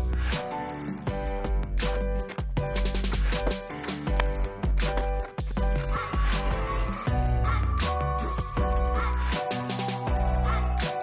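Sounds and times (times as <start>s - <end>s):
electronic hip-hop music: 0.0s - 11.0s.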